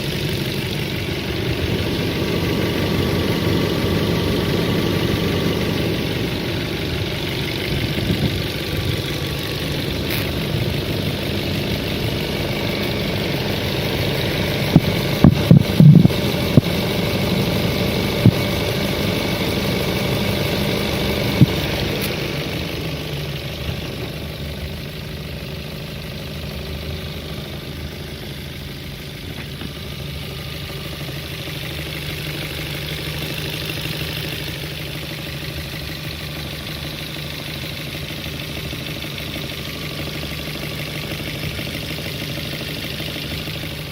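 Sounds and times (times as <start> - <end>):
engine idling: 0.0 - 43.9
engine knocking: 0.0 - 43.9.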